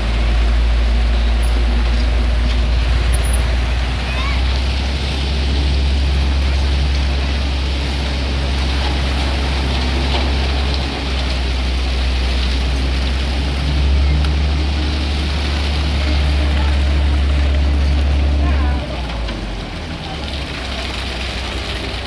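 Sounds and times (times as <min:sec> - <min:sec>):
heavy diesel engine drone: 0:00.0 - 0:22.0.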